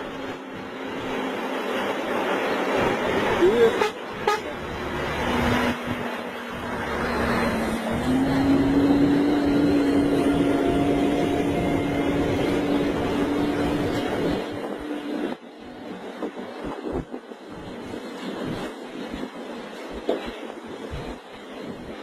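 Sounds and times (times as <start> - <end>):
truck diesel engine under load: 0.0 - 18.9.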